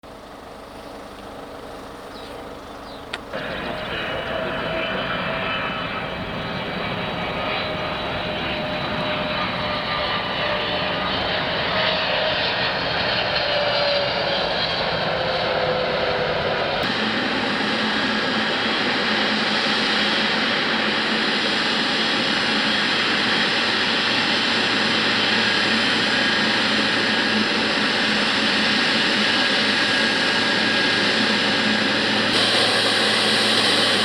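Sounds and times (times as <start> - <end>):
plane engines with whining tone: 0.0 - 34.0.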